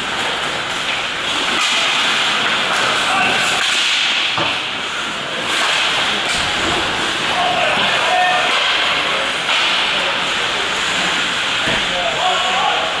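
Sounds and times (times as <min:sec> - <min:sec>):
hockey sticks and puck clacking: 0:00.0 - 0:12.9.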